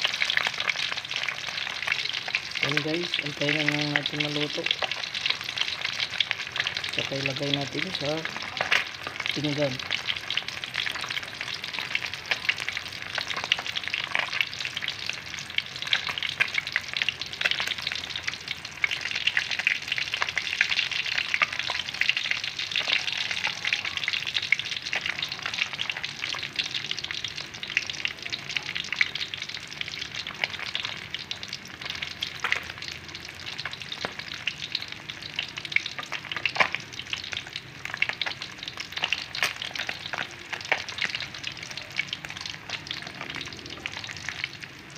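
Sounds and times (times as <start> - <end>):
fish sizzling in hot oil: 0.0 - 44.9
oil popping and crackling: 0.0 - 44.9.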